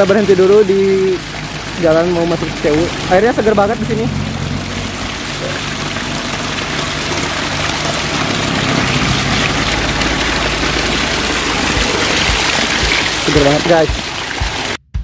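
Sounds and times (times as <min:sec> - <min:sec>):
water splashing over rocks: 0:00.0 - 0:14.8.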